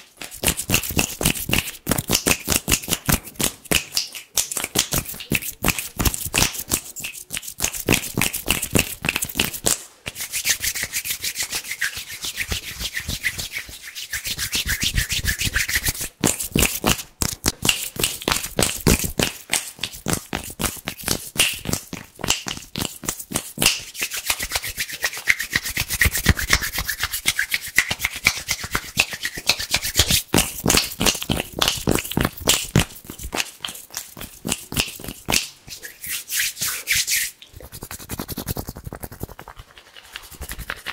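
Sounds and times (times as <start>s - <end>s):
hands rubbing together: 0.1s - 40.9s.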